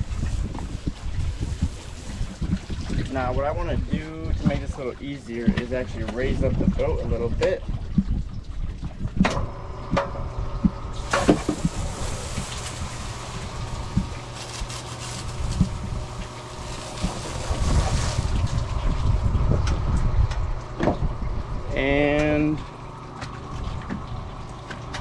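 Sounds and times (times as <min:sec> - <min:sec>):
boat lift low hum: 0:00.0 - 0:25.0.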